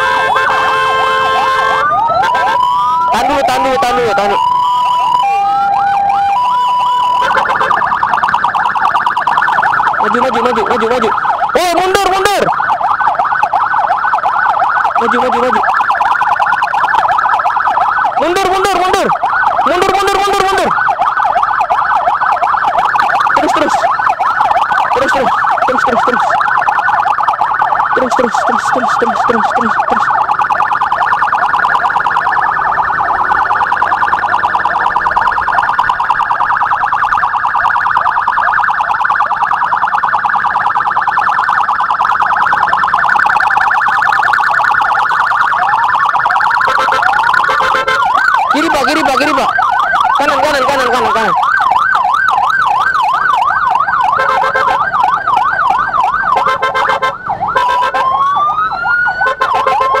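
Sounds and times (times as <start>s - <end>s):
emergency vehicle siren: 0.0s - 60.0s
lower siren tone falling: 0.0s - 60.0s.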